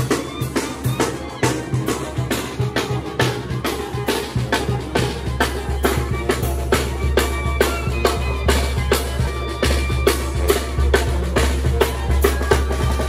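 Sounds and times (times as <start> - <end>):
snare and bass drum beat: 0.0 - 13.0
brass notes: 0.5 - 13.0.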